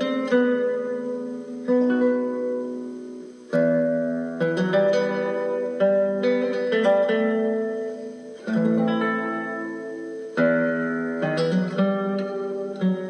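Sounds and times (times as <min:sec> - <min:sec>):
plucked guitar: 0:00.0 - 0:13.0
strummed guitar chords: 0:00.0 - 0:13.0.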